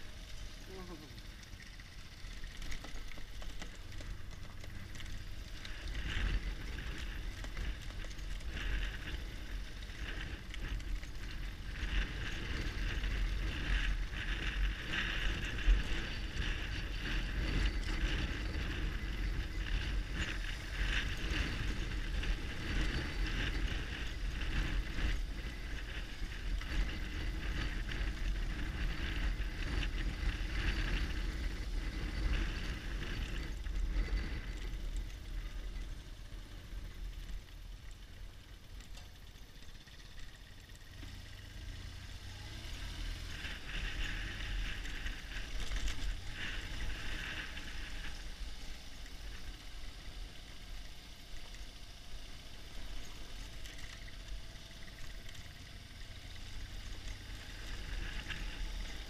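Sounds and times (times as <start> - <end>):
motorcycle engine running: 0.0 - 59.0
wind rumble on microphone: 0.0 - 59.0.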